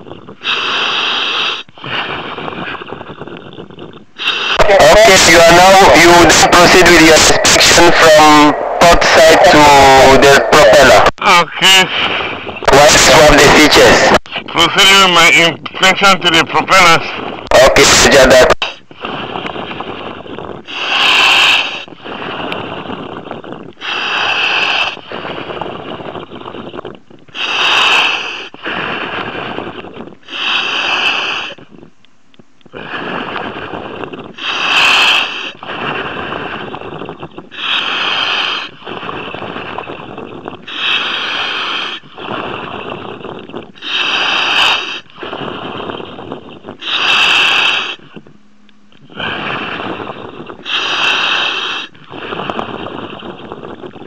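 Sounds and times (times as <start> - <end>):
diver breathing through regulator: 0.0 - 11.1, 11.8 - 14.5, 18.6 - 31.9, 32.6 - 54.0.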